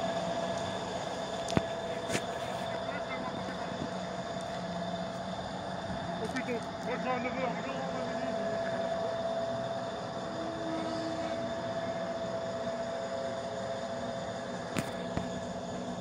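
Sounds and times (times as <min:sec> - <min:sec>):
locomotive engine whining: 0:00.0 - 0:16.0.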